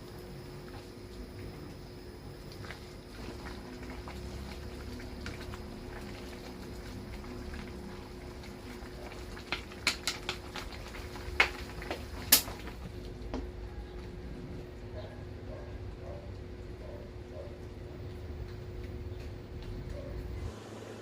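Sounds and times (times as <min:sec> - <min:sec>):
soup boiling and bubbling: 0:00.0 - 0:20.7.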